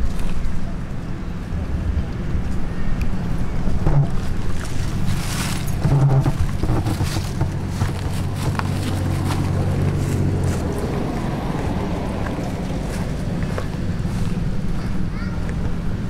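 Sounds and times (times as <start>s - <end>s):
low engine hum: 0.0s - 16.0s
wind noise on microphone: 0.0s - 16.0s.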